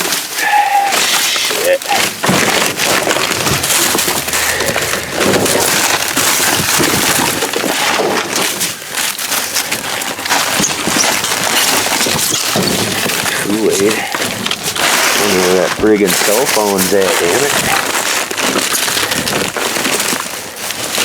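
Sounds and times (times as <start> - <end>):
trash crackling and crinkling: 0.0 - 21.0.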